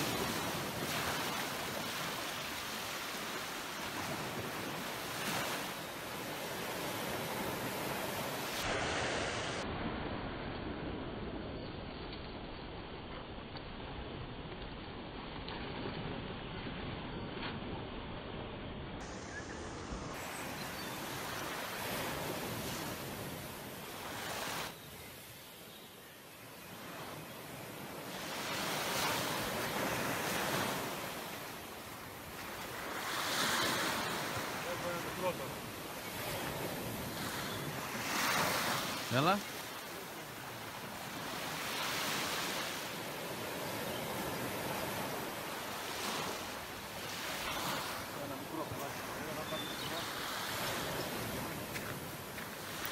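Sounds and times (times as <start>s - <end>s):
small waves washing on sand: 0.0s - 11.4s, 19.0s - 25.7s, 26.3s - 52.9s.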